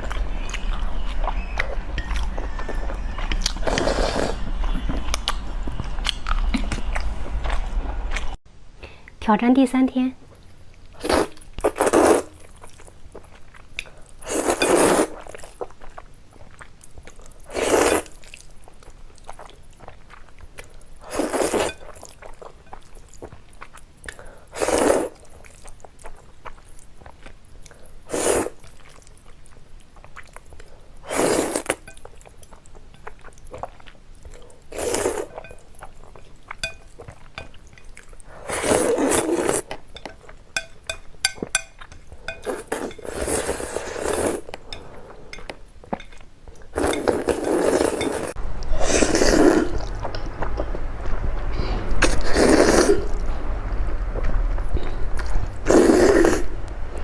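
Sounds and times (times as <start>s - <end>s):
person eating noodles: 0.0s - 7.6s, 10.9s - 29.1s, 30.0s - 50.2s, 52.0s - 53.2s, 54.8s - 56.5s.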